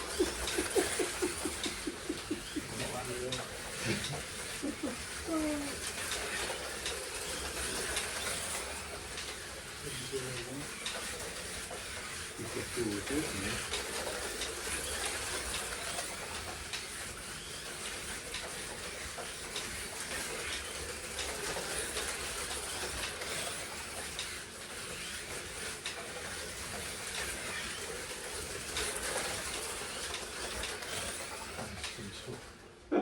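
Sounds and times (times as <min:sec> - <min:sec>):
electric motors whining: 0:00.0 - 0:32.5
slot cars running on track: 0:00.0 - 0:32.7.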